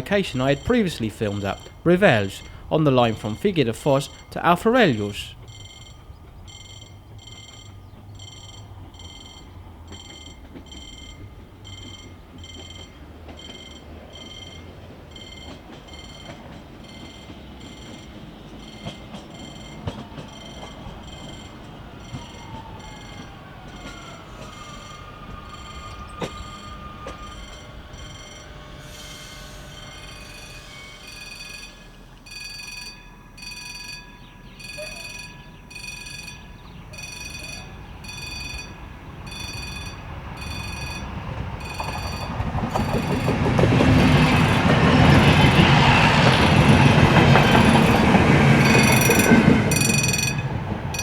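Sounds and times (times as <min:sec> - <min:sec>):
crossing bell electronic beeps: 0:00.0 - 0:51.0
train rumbling past: 0:00.0 - 0:51.0.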